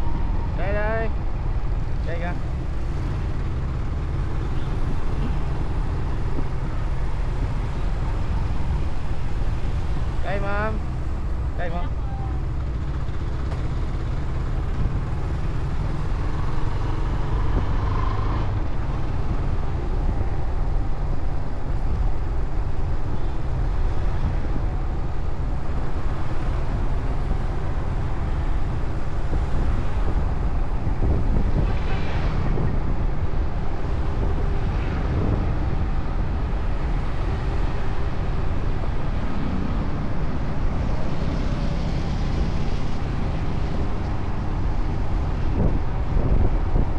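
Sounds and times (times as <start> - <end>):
motorcycle engine and road noise: 0.0 - 46.9.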